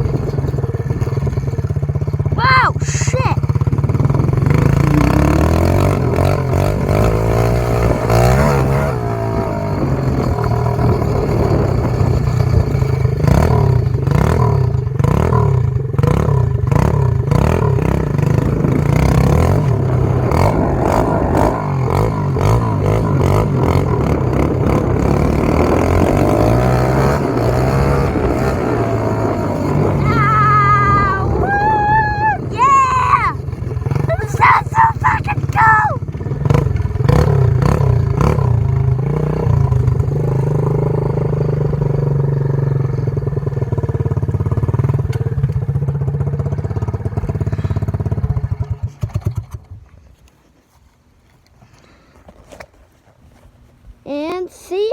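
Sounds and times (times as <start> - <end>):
motorbike engine revving: 0.0 - 49.8.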